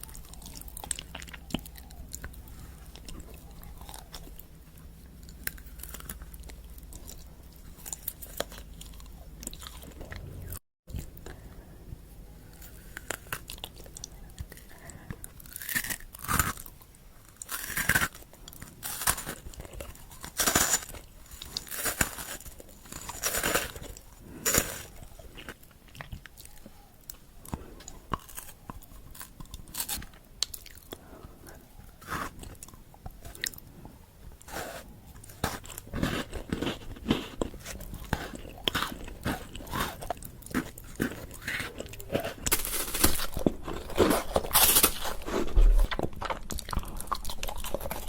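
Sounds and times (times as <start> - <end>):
chewing and crunching candy: 0.0 - 48.0.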